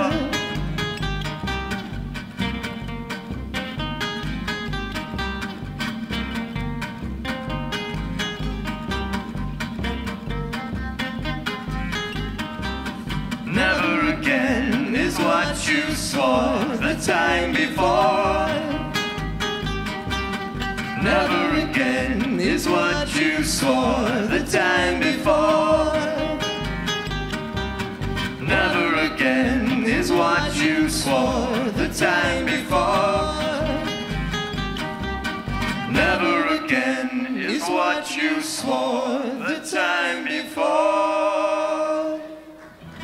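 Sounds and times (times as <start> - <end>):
plucked double bass: 0.0 - 36.7
acoustic guitars: 0.0 - 43.0.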